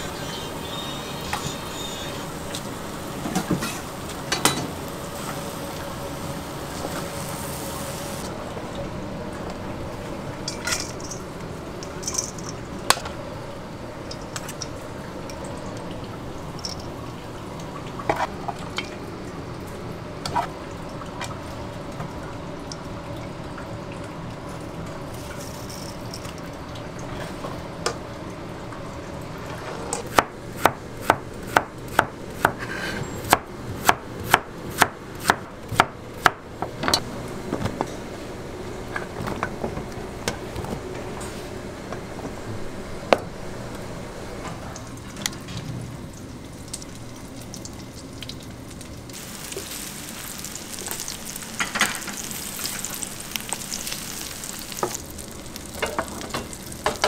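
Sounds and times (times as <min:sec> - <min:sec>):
kitchen hum: 0:00.0 - 0:57.0.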